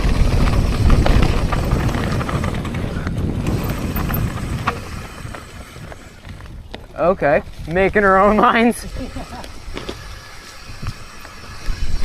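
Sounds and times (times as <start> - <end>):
bike tyres rattling over ground: 0.0 - 12.0
wind rumble on microphone: 0.0 - 12.0.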